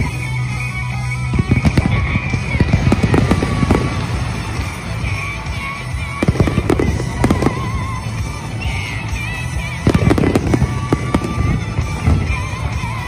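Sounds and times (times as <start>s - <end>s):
fireworks banging and crackling: 0.0s - 13.0s
low rumble: 0.0s - 13.0s
music playing: 0.0s - 13.0s.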